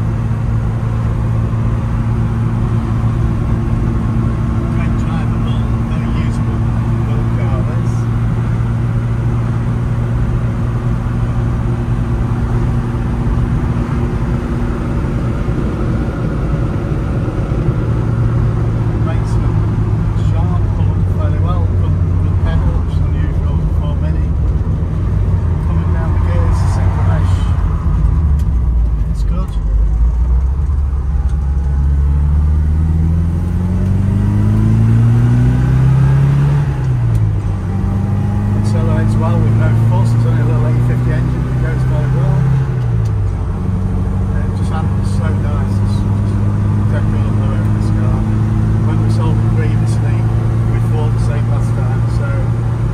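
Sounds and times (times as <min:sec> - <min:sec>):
car engine droning: 0:00.0 - 0:52.9
tyre and road noise: 0:00.0 - 0:52.9.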